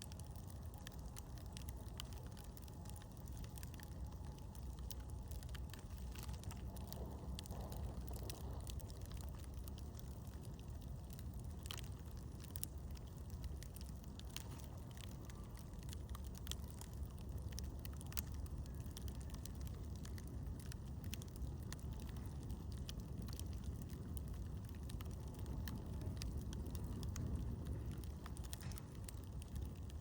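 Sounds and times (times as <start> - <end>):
campfire crackling: 0.0 - 30.0
low fire rumble: 0.0 - 30.0.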